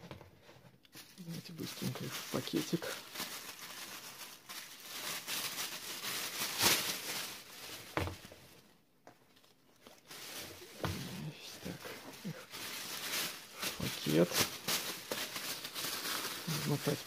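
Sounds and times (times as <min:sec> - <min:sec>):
plastic bag rustling: 0:00.0 - 0:17.0.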